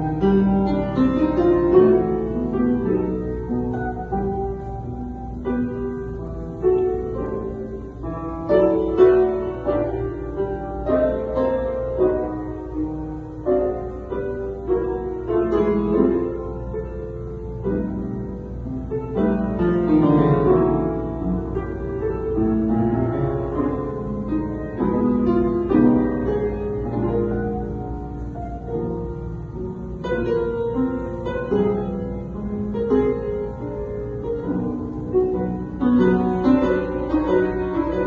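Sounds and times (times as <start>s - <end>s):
instrumental melody: 0.0s - 38.0s.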